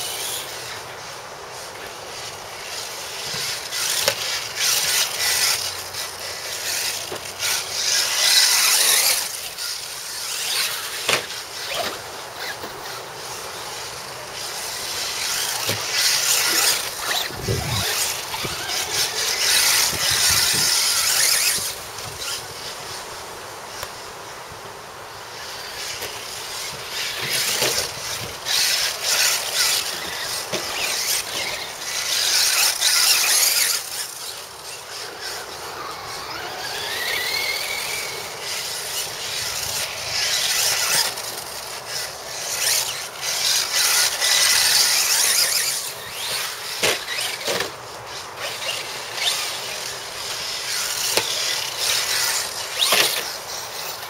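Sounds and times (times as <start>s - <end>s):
electric rc cars whining: 0.0s - 54.0s.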